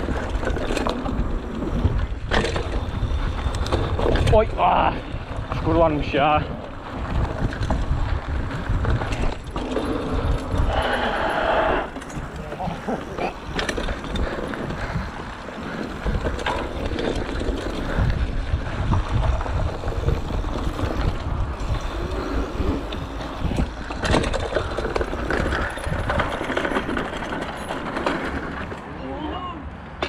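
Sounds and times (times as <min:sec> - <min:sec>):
wind rumble on microphone: 0:00.0 - 0:28.8
bike chain rattling and clicking: 0:00.0 - 0:28.9
tyre noise: 0:00.0 - 0:29.0.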